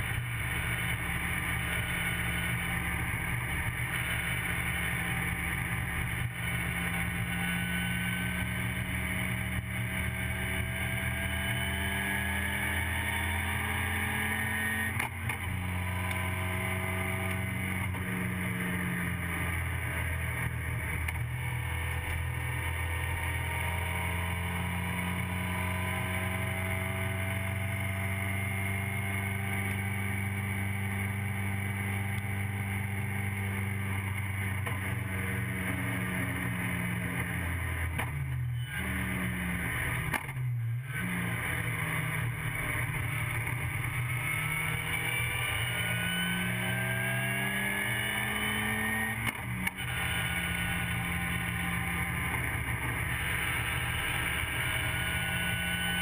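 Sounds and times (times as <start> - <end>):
race car engine revving: 0.0 - 38.1, 38.7 - 56.0.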